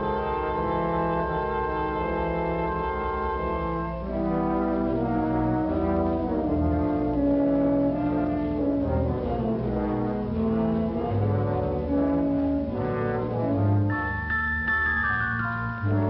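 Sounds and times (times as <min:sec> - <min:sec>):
orchestral brass chords: 0:00.0 - 0:16.0.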